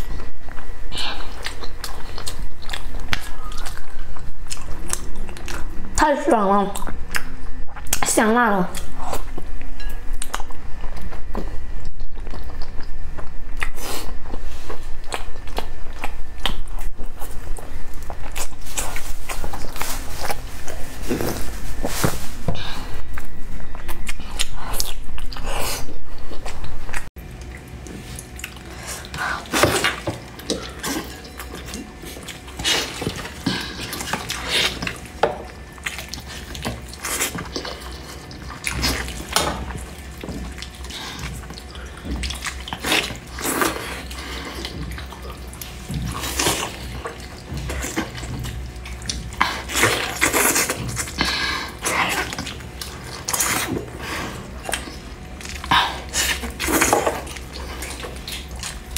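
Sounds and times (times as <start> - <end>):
wet chewing mouth sounds: 0.2 - 6.1, 8.7 - 21.4, 23.0 - 58.9.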